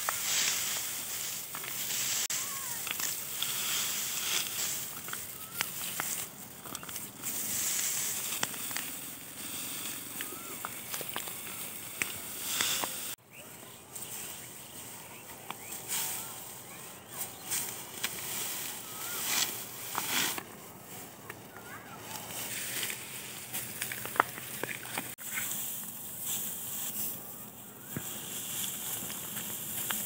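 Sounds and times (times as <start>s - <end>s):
dry wheat stalks rustling: 0.0s - 30.0s.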